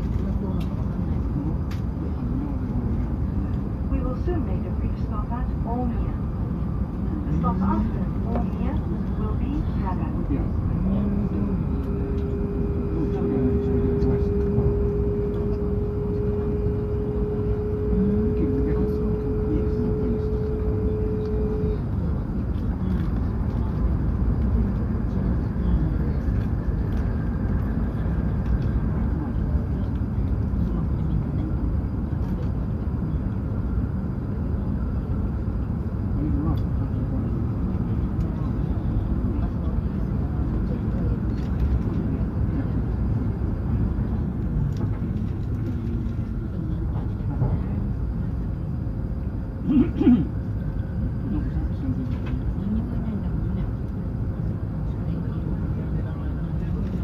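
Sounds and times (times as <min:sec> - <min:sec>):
steady hum: 0:00.0 - 0:57.0
train running rumble: 0:00.0 - 0:57.0.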